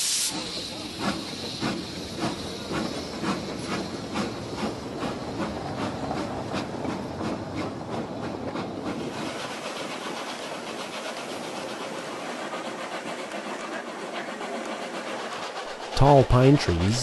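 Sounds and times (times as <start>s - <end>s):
rolling train cars: 0.0s - 17.0s
steam hiss: 0.0s - 17.0s
steam locomotive exhaust beating: 0.0s - 17.0s.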